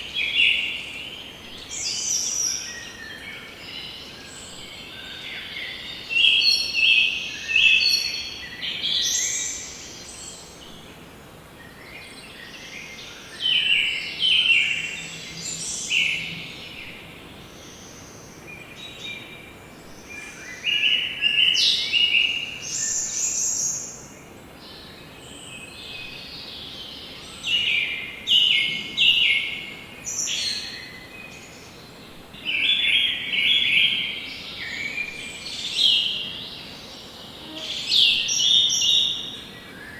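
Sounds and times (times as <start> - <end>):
faint steady background noise: 0.0 - 39.9
songbirds singing: 0.0 - 39.9.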